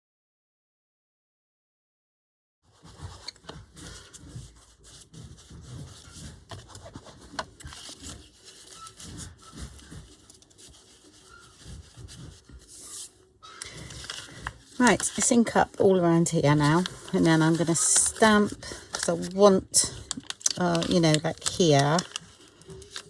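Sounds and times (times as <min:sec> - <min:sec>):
ink applicator scuffing paper: 0:02.7 - 0:23.0.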